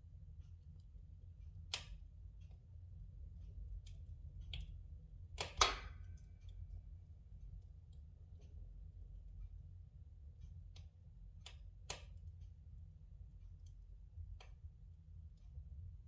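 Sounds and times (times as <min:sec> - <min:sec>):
low fire rumble: 0:00.0 - 0:16.0.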